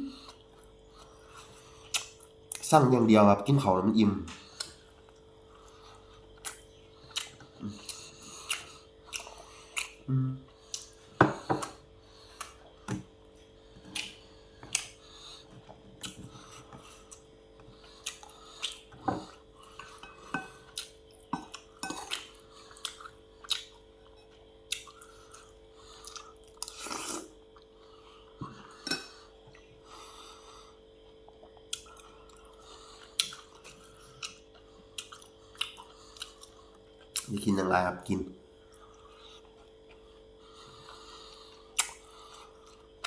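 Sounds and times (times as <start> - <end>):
faint hum: 0.0 - 43.0
chewing: 0.2 - 2.7, 4.3 - 37.4, 38.5 - 43.0.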